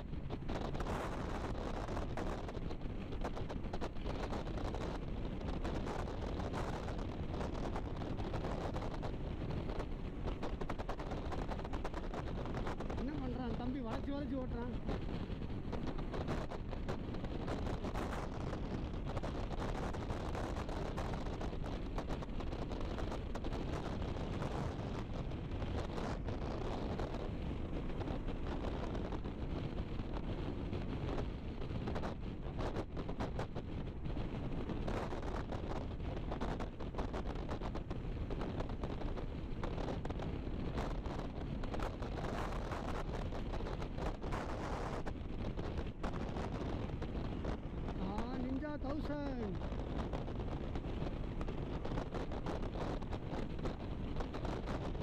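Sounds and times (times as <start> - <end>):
motorcycle engine and road noise: 0.0 - 55.0
wind buffeting microphone: 0.0 - 55.0.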